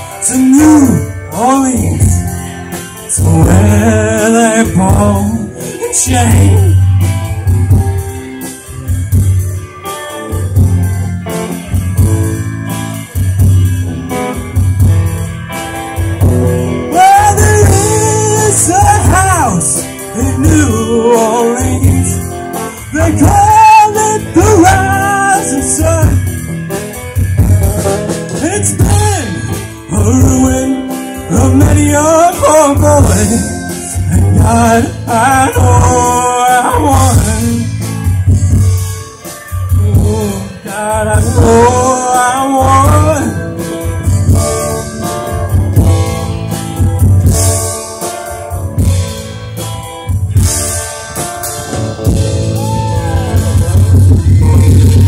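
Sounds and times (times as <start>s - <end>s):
lead guitar bending lines: 0.0s - 55.0s
rock band playing: 0.0s - 55.0s.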